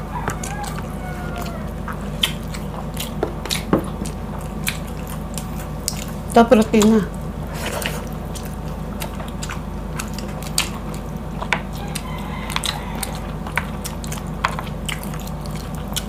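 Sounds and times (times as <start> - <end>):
biting and chewing meat: 0.0 - 16.0
steady low hum: 0.0 - 16.0.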